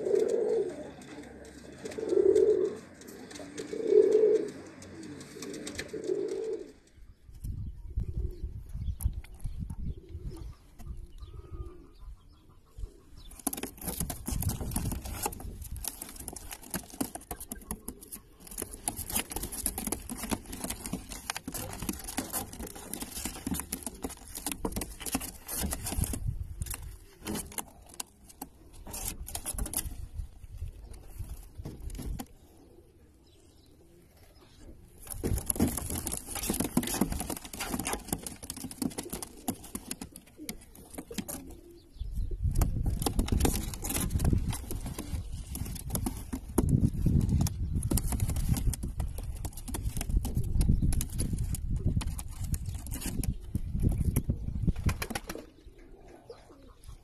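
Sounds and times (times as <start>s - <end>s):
pigeons cooing: 0.0s - 7.0s, 7.9s - 8.8s, 9.8s - 29.9s, 30.6s - 57.0s.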